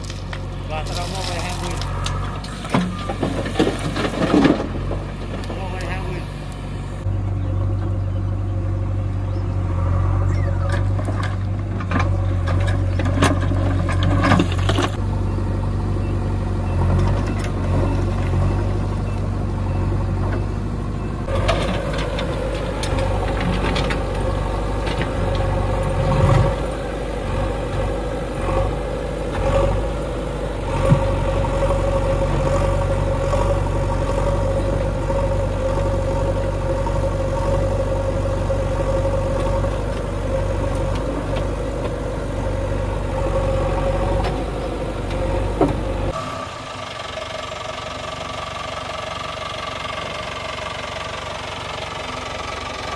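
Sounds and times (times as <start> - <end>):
diesel engines running: 0.0 - 52.9.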